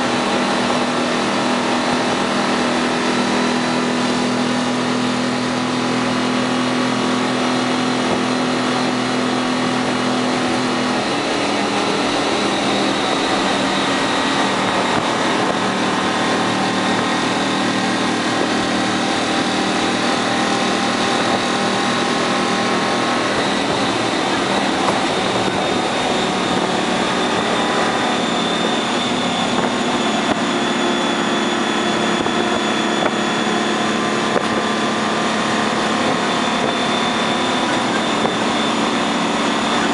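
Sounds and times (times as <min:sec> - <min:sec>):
diesel truck engine running: 0:00.0 - 0:39.9
road noise: 0:00.0 - 0:39.9.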